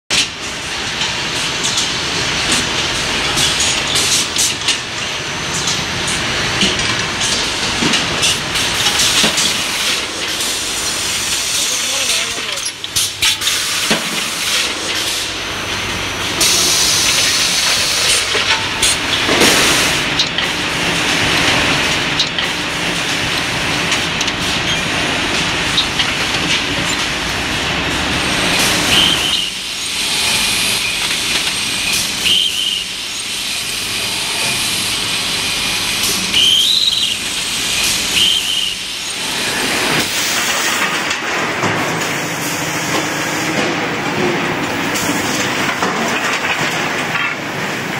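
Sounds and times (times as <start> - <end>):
machines clattering and hissing: 0.1 - 47.9.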